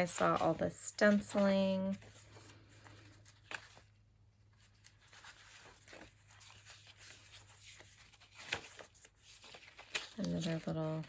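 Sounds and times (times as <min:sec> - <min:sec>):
paper pages rustling and turning: 0:00.0 - 0:11.0.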